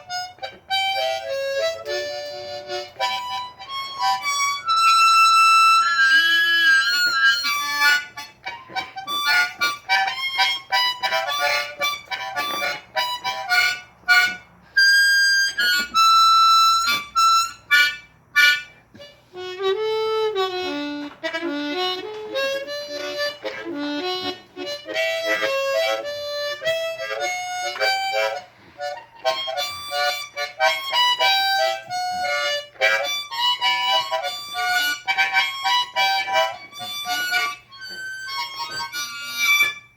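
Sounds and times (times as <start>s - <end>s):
solo harmonica: 0.0s - 39.9s.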